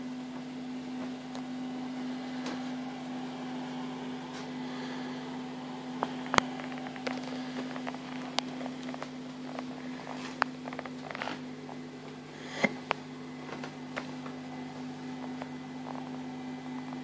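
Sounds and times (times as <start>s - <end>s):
aquarium pumps humming: 0.0s - 17.0s.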